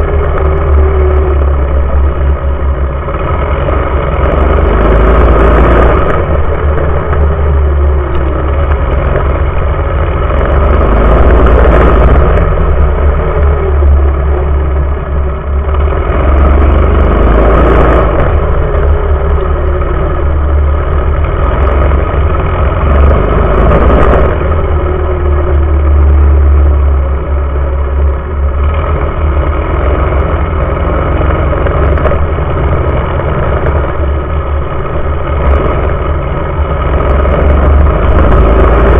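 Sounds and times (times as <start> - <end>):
small engine revving: 0.0 - 38.9
wind rumble: 0.0 - 38.9.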